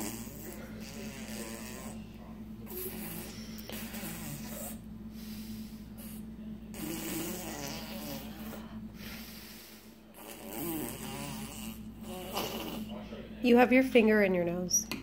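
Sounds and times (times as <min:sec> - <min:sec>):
low buzzing hum: 0:00.0 - 0:15.0.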